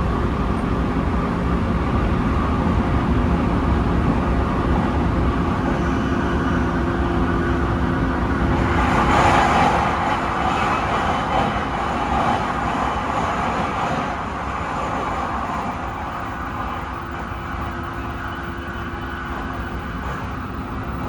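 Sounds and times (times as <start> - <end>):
electric train rumbling: 0.0 - 21.0.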